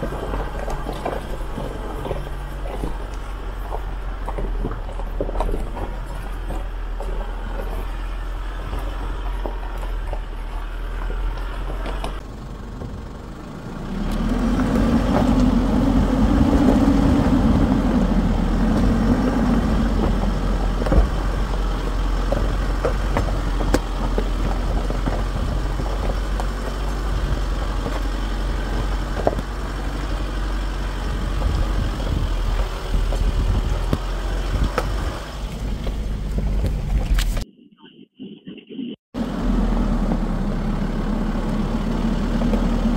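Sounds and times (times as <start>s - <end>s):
diesel engine running: 0.0s - 37.4s, 39.2s - 42.9s
stones crackling under tyres: 0.0s - 37.4s, 41.4s - 42.9s.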